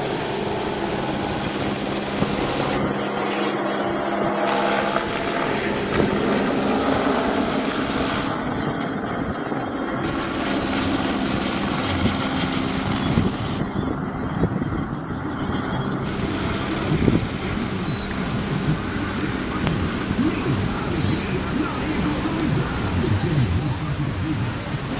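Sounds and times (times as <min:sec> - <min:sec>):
helicopter rotor noise: 0:00.0 - 0:24.9
turbine engine whine: 0:00.0 - 0:24.9.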